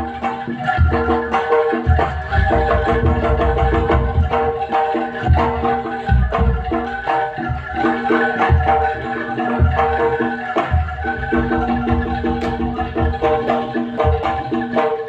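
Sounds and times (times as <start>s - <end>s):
deep drum beats: 0.0s - 14.9s.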